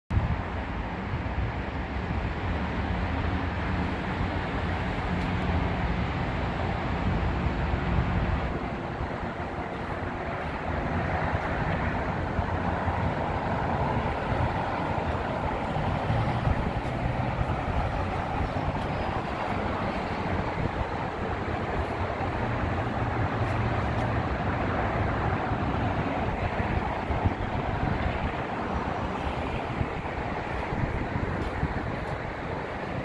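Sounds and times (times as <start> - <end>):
distant road traffic rushing: 0.1 - 33.0.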